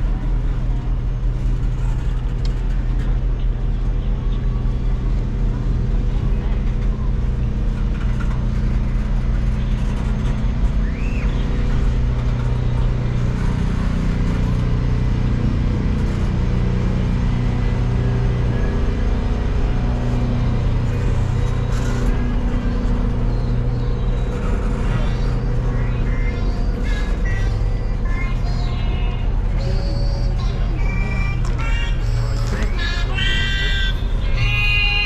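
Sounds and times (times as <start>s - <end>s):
train rolling slowly past: 0.0s - 35.0s.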